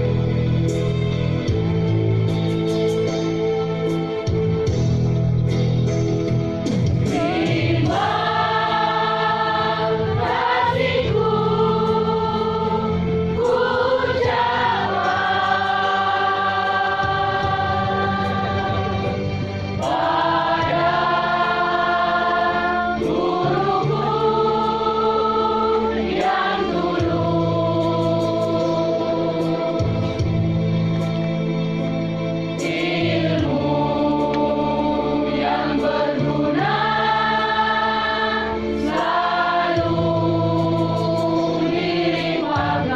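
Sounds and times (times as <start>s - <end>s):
choir singing long held notes: 7.0s - 31.4s, 32.5s - 42.9s.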